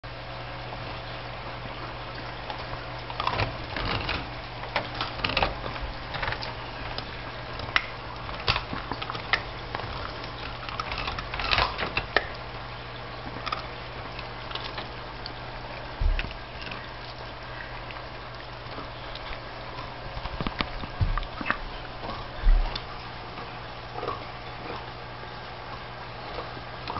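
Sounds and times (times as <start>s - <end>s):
dog gnawing bone: 1.6s - 26.9s.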